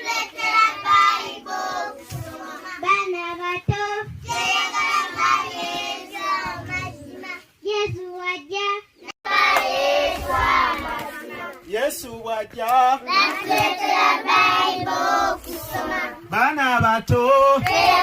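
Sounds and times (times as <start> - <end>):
children singing: 0.0 - 8.4, 9.0 - 11.7, 13.0 - 16.3, 17.6 - 18.0.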